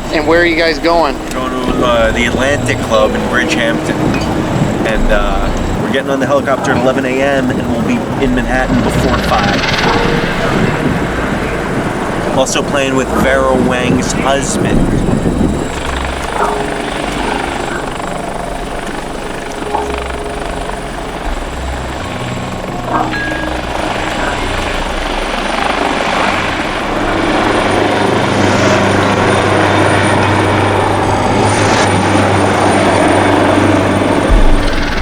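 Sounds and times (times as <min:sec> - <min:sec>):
helicopter running: 0:00.0 - 0:35.0.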